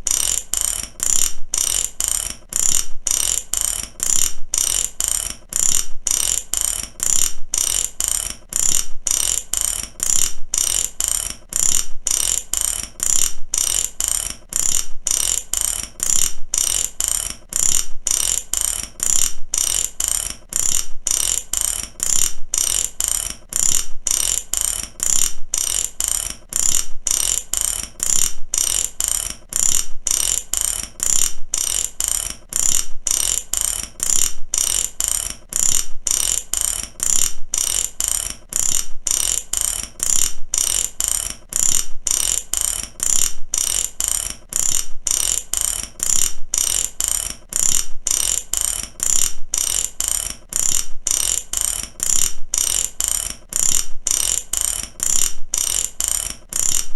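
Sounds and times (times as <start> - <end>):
ratchet wrench clicking: 0.0 - 56.9.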